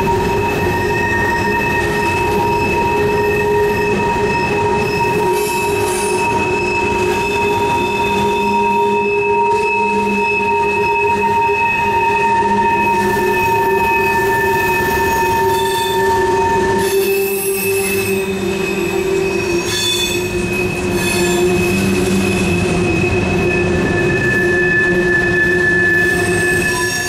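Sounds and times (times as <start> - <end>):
train wheels squealing on rails: 0.0 - 27.0
sharp high screeches: 0.5 - 27.0.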